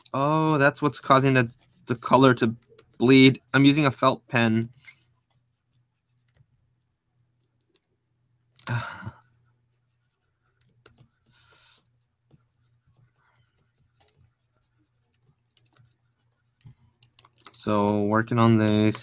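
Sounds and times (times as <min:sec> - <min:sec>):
stylus scratching and tapping tablet: 0:00.0 - 0:08.5, 0:09.3 - 0:19.0.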